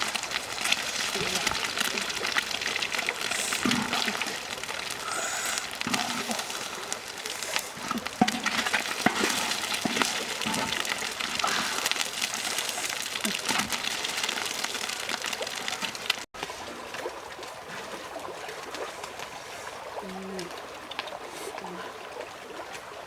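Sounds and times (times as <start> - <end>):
small sharp splashes and clicks: 0.0 - 23.0
water splashing and running: 0.0 - 23.0.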